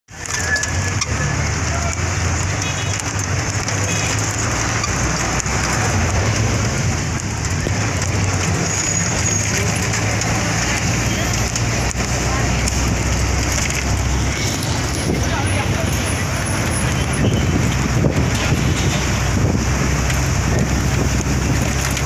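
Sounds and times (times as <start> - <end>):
bus engine and road rumble: 0.1 - 22.0
wind and tyre hiss: 0.1 - 22.0.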